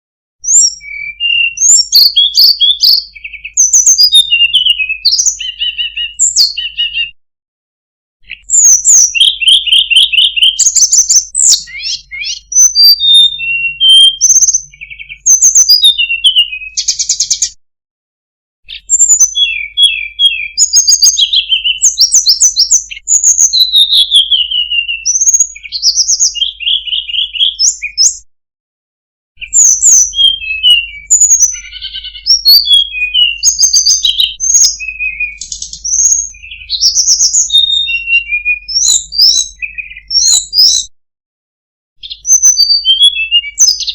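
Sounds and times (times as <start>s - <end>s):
bird singing whistled notes and trills: 0.4s - 7.2s, 8.2s - 17.6s, 18.6s - 28.3s, 29.4s - 40.9s, 42.0s - 43.9s.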